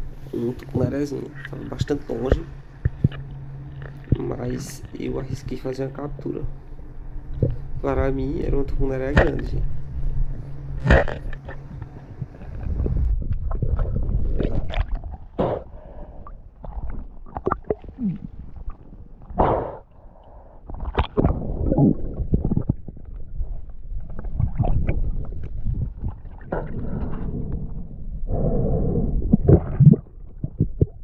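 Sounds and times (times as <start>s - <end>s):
low rumble: 0.0s - 31.0s
underwater gurgling and bubbling: 0.0s - 31.0s.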